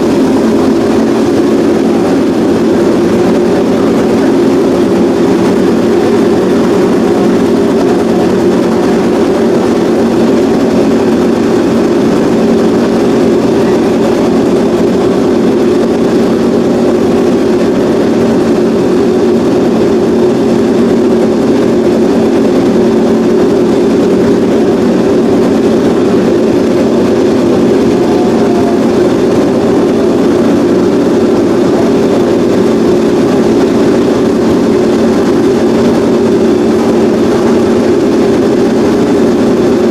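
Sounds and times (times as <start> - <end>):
motorcycle engine idling loudly: 0.0 - 39.9.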